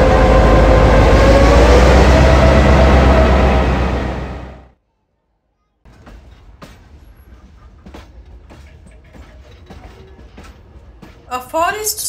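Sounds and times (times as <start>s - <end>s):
train carriage rumble: 0.0s - 4.8s, 5.9s - 12.0s.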